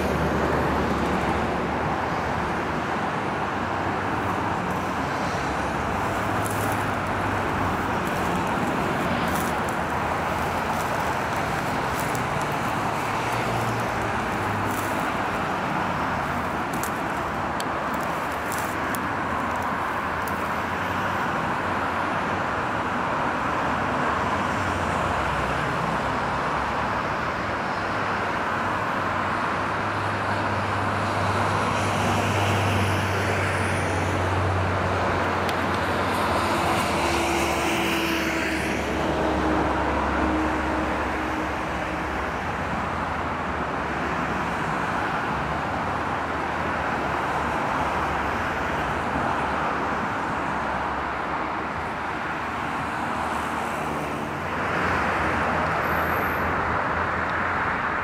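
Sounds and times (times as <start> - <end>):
road traffic noise: 0.0 - 58.0.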